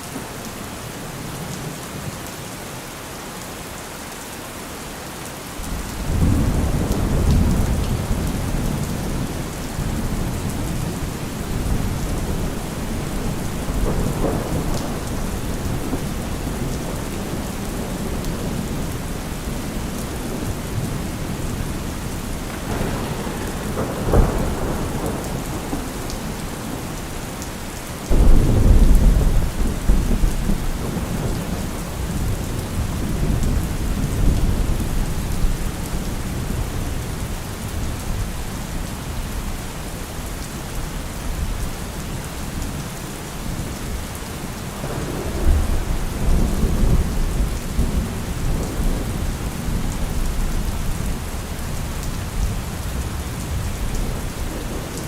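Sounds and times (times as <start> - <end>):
steady rain: 0.0 - 55.0
thunder rumbling: 5.6 - 40.4, 43.4 - 55.0.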